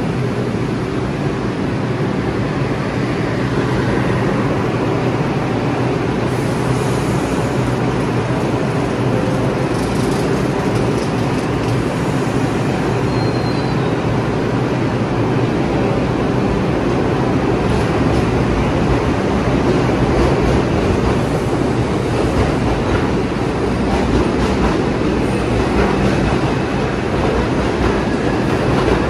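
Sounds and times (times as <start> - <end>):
subway train rumble and hum: 0.0 - 29.0.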